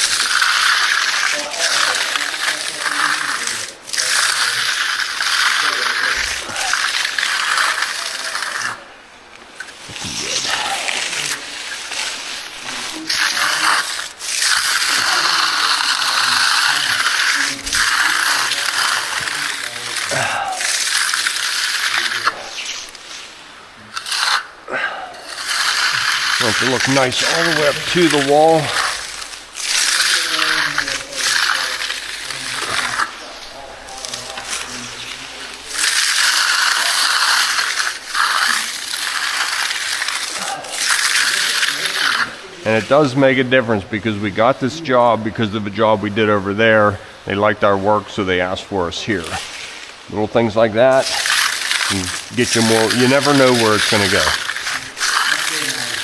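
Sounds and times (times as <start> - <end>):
trowel scraping concrete: 0.0 - 49.9, 50.9 - 56.0.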